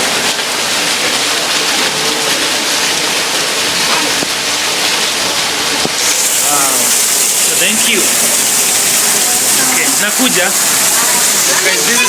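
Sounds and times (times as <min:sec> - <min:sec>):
heavy rain hiss: 0:00.0 - 0:12.0.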